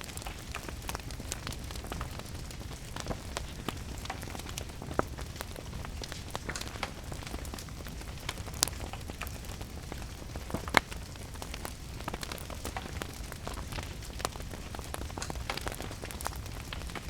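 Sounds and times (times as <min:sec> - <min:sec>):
rain hiss and rumble: 0:00.0 - 0:17.0
wood fire crackling and popping: 0:00.0 - 0:17.0.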